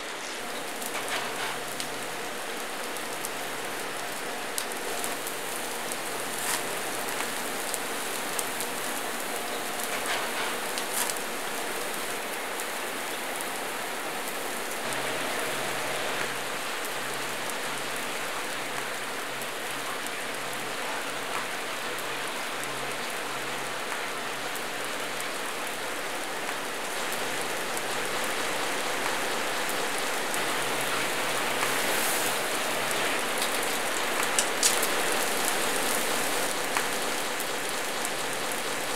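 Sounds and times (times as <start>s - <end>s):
meat sizzling on a grill: 0.0s - 38.9s.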